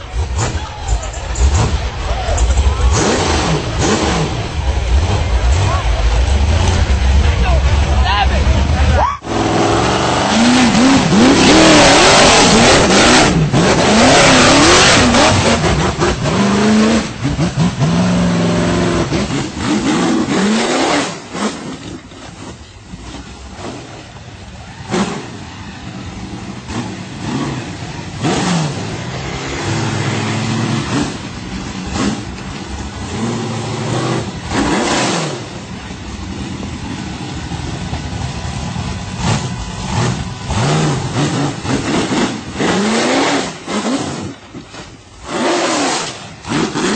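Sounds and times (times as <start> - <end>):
buggy engine revving: 0.0 - 46.9.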